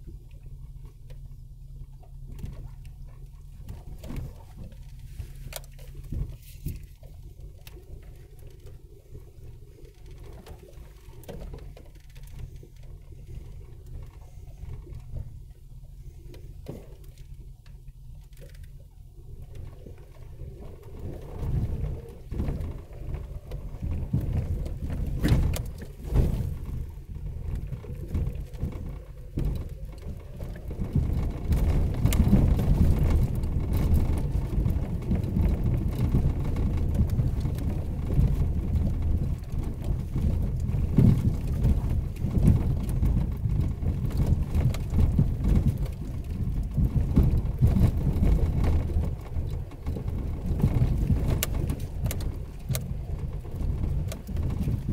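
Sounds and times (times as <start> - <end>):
engine and tyres rumbling: 0.0 - 54.9.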